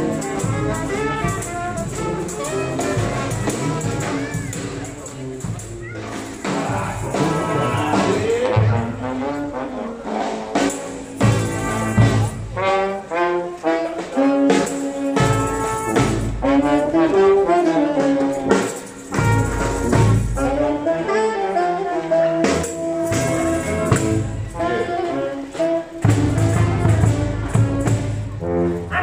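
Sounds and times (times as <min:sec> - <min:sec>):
drum beats: 0:00.0 - 0:20.9, 0:22.4 - 0:29.0
brass band playing: 0:00.0 - 0:29.0.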